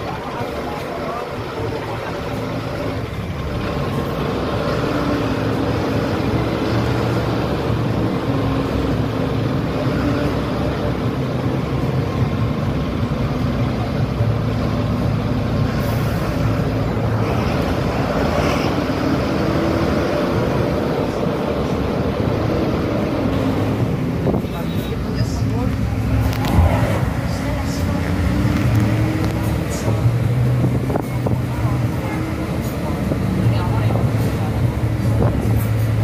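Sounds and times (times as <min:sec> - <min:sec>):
bus engine running: 0:00.0 - 0:36.0
road and wind noise: 0:00.0 - 0:36.0.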